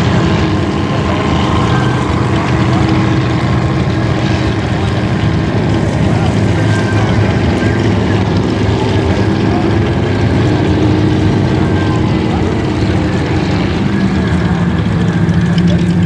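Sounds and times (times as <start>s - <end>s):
speedboat engines droning: 0.0s - 16.0s.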